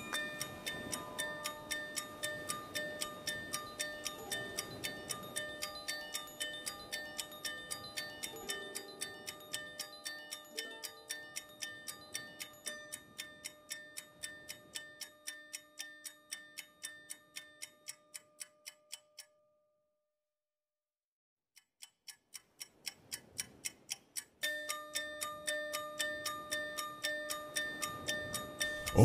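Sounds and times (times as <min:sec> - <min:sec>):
ticking clock-like music beat: 0:00.0 - 0:19.4, 0:21.6 - 0:29.0.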